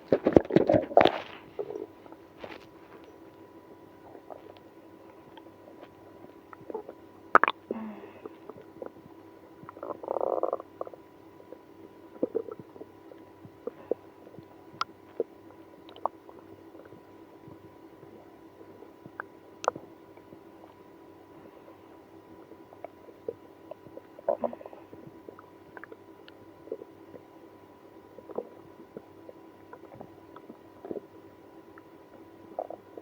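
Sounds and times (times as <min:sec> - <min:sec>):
stomach growling: 0:00.0 - 0:33.0.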